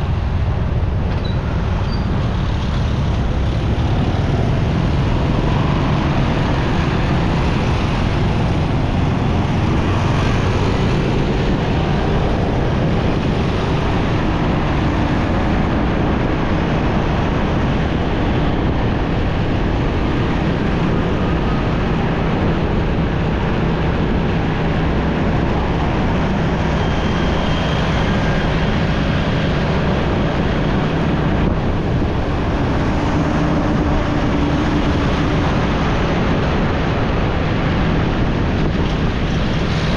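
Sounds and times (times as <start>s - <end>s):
motorcycle engine hum: 0.0s - 39.9s
surrounding traffic: 0.0s - 39.9s
wind noise on microphone: 0.0s - 39.9s.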